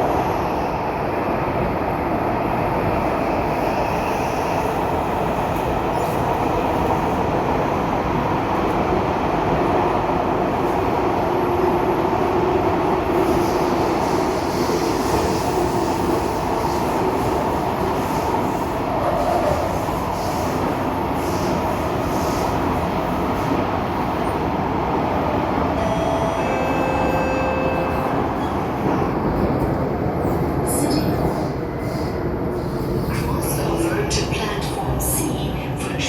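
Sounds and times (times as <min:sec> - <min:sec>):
train wheels rumbling on rail: 0:00.0 - 0:25.8, 0:27.6 - 0:36.0.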